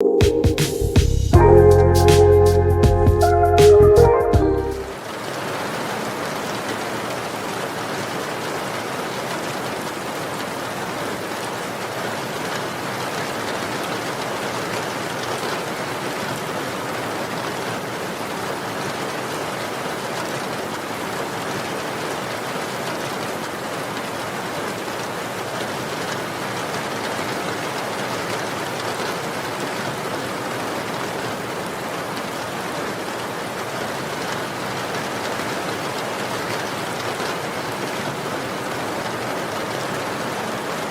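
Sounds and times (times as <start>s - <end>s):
dense rain pattering: 4.8s - 40.9s.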